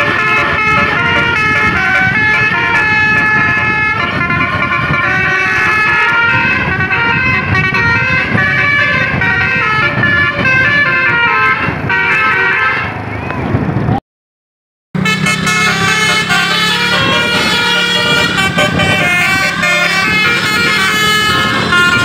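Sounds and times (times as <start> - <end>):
musical bus horn playing a tune: 0.0 - 12.9, 15.0 - 22.0
engine and road rumble: 0.0 - 14.0, 15.0 - 22.0.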